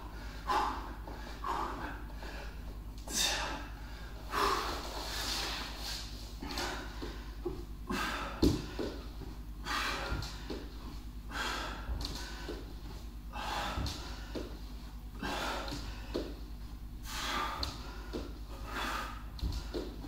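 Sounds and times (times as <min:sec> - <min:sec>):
man breathing hard: 0:00.0 - 0:20.0.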